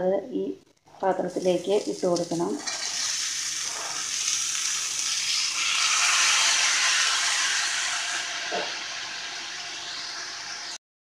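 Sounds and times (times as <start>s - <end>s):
chickpeas sizzling in a hot wok: 1.0s - 10.8s.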